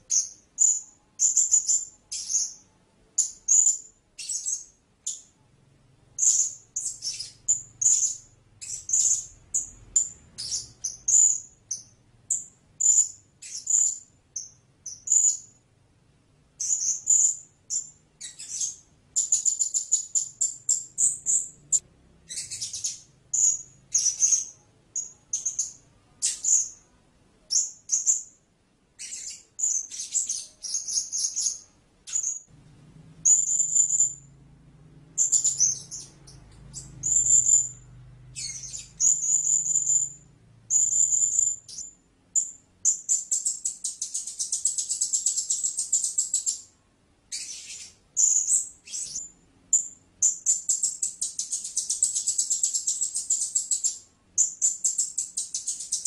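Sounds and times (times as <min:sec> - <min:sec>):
parrot chirping: 0:00.0 - 0:05.4, 0:06.2 - 0:15.6, 0:16.6 - 0:26.9, 0:27.5 - 0:28.4, 0:29.0 - 0:32.5, 0:33.2 - 0:46.7, 0:47.3 - 0:56.0.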